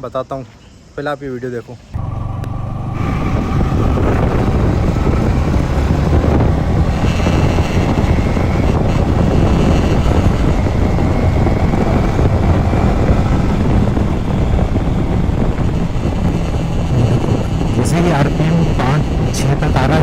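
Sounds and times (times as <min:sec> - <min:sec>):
motorcycle engine running: 0:02.0 - 0:20.0
wind noise on microphone: 0:02.0 - 0:20.0.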